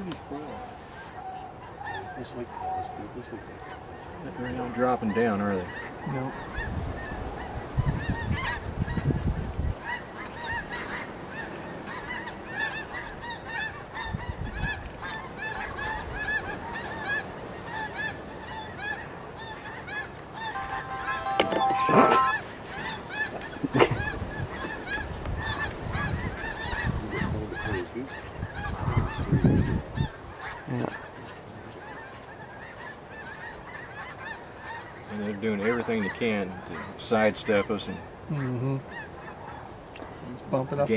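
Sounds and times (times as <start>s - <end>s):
geese yelping calls: 0.0s - 40.9s.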